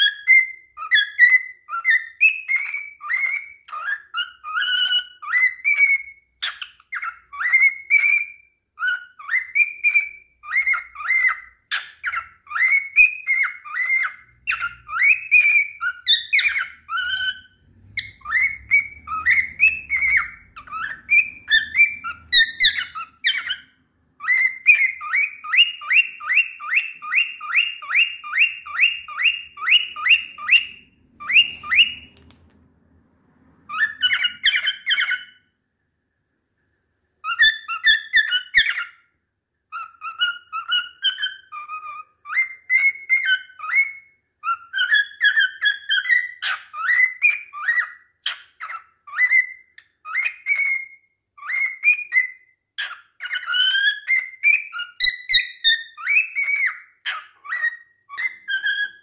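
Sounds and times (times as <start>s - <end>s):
cockatiel whistling song: 0.0s - 32.4s, 33.4s - 35.6s, 37.1s - 59.0s
cockatiel repeated rising chirps: 0.0s - 35.6s, 37.1s - 59.0s.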